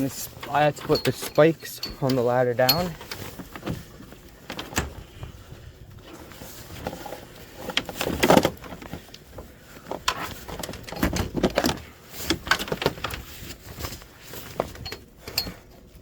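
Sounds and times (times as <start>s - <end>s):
person climbing a ladder: 0.0s - 16.0s.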